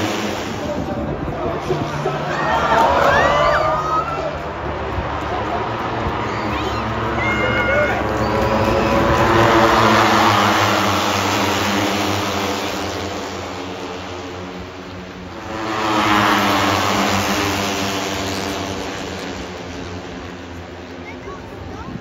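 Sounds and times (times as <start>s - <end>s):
racing motorcycles passing by: 0.0s - 22.0s.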